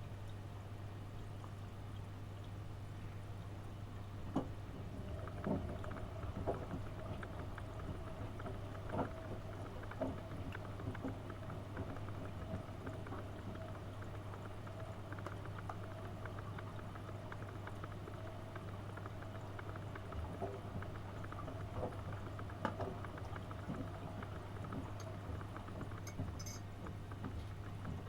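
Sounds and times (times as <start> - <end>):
water and laundry sloshing: 1.3 - 28.0
washing machine motor hum: 1.7 - 28.0.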